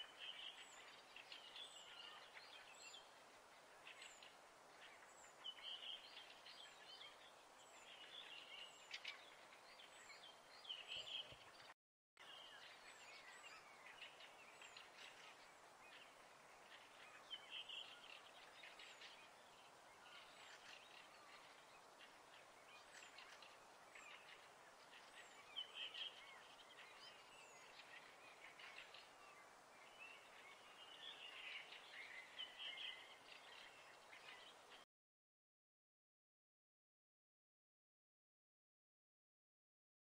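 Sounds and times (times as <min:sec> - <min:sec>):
small birds chirping: 0:00.0 - 0:34.8
steady background hiss: 0:00.0 - 0:34.8.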